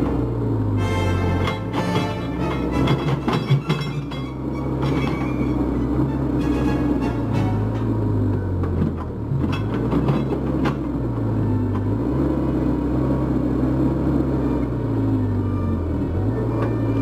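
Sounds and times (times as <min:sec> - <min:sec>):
excavator diesel engine under load: 0:00.0 - 0:17.0.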